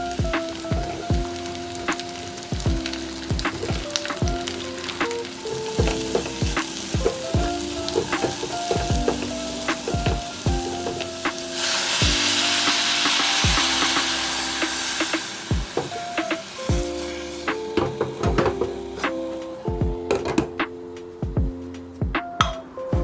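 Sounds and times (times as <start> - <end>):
food sizzling in a pan: 0.0 - 19.5
background music with beat: 0.0 - 23.0.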